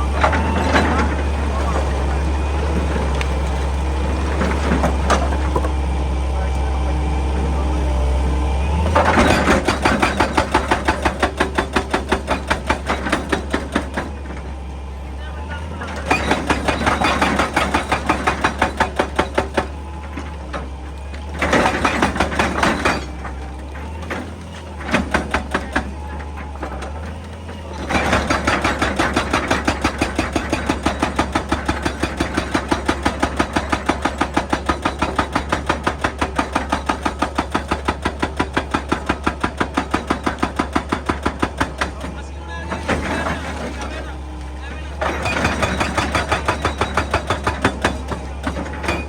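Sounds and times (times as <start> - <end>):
hydraulic breaker hammering rock: 0.0 - 5.8, 8.8 - 14.6, 15.5 - 49.0
excavator engine running: 0.0 - 49.0.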